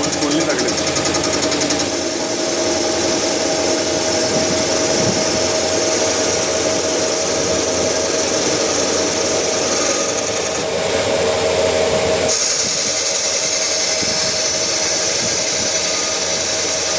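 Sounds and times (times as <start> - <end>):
machine whine: 0.0 - 16.9.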